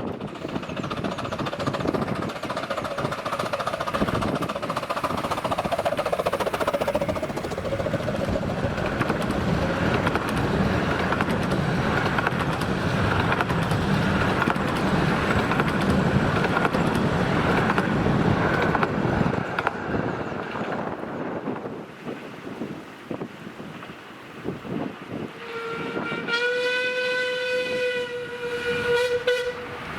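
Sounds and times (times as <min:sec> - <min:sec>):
miniature train rolling past: 0:00.0 - 0:29.9.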